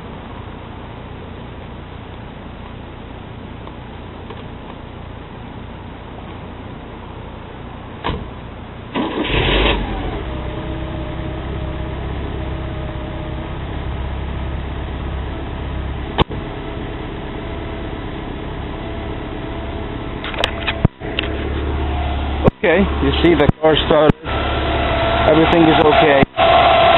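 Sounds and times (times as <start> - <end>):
car engine starting and idling: 0.0 - 26.9.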